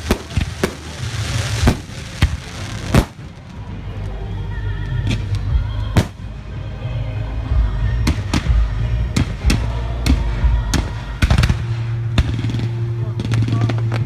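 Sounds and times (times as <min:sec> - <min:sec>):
fireworks bursting: 0:00.0 - 0:14.0
loud music: 0:00.0 - 0:14.0
low rumble: 0:00.0 - 0:14.0.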